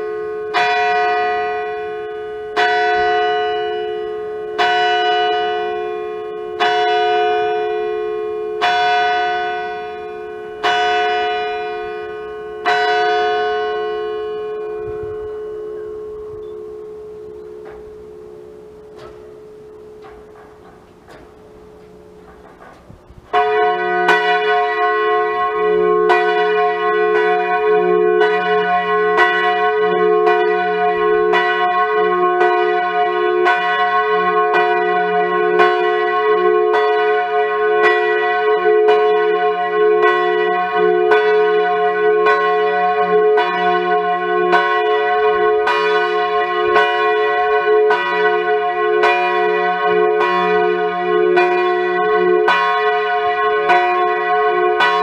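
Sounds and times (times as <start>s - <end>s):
church bell tolling: 0.0s - 55.0s.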